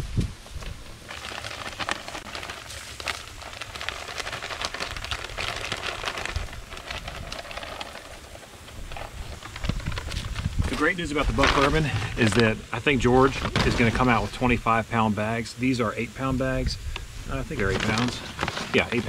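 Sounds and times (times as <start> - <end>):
granules pattering onto dirt: 0.4 - 14.5, 17.5 - 19.0.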